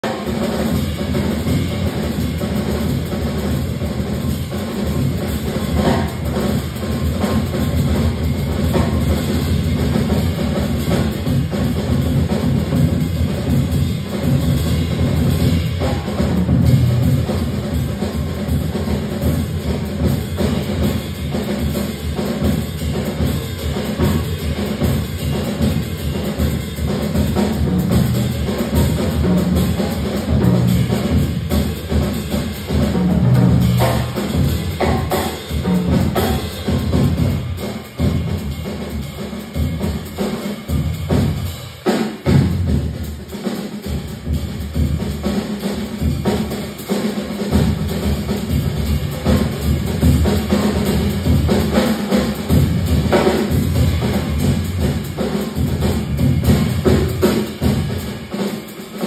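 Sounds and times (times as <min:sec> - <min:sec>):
jazz drum solo: 0:00.0 - 0:59.0.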